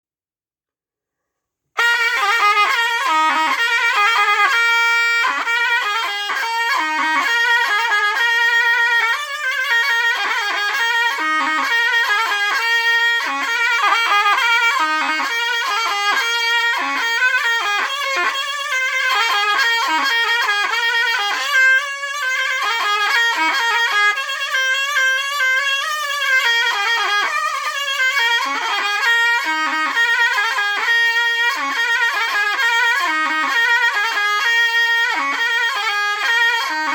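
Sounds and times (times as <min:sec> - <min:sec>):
shrill shawm folk melody: 0:01.8 - 0:36.9.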